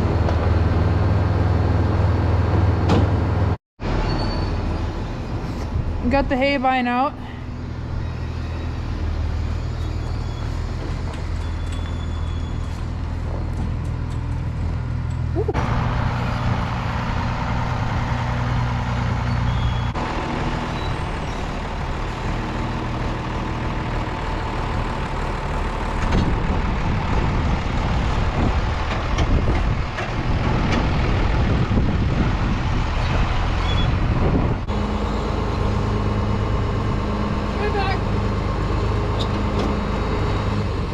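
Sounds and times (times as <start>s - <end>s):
tractor engine running: 5.0s - 40.9s.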